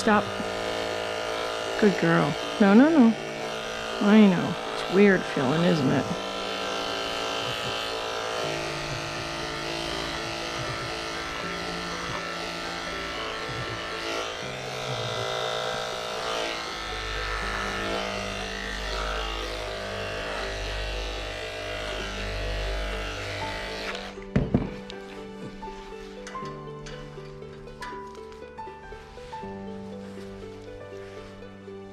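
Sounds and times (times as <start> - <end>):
electric clippers humming: 0.0 - 28.1
background music: 0.0 - 31.9.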